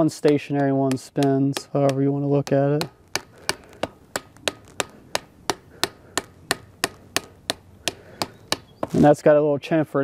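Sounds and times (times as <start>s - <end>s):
hammer tapping metal seal: 0.0s - 8.9s.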